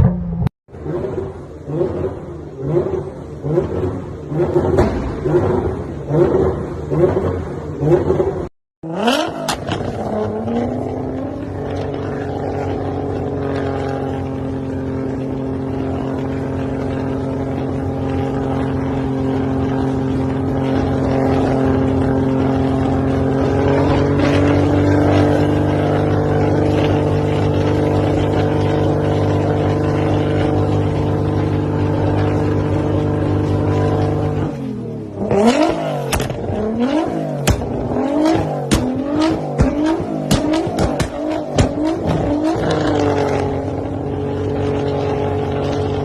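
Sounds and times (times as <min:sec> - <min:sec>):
car engine and exhaust drone: 0:00.0 - 0:46.0.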